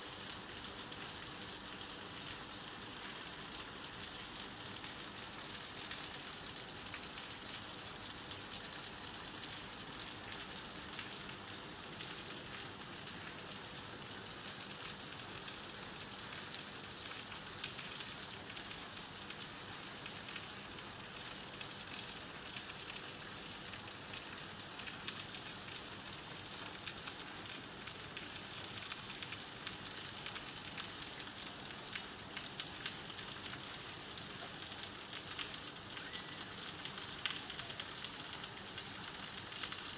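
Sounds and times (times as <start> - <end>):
steady rain falling: 0.1 - 39.9.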